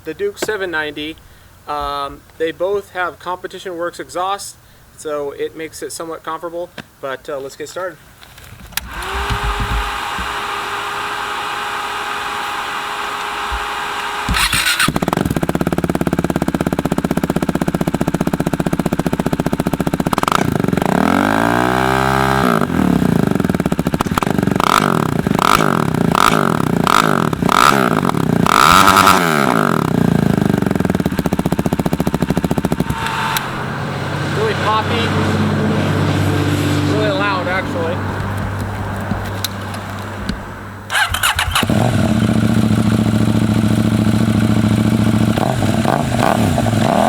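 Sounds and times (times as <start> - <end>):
motorcycle engine idling and revving: 8.8 - 47.0.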